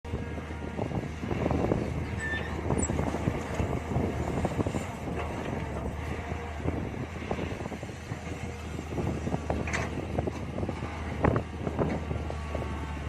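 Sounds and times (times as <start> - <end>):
excavator engine running: 0.1 - 13.0.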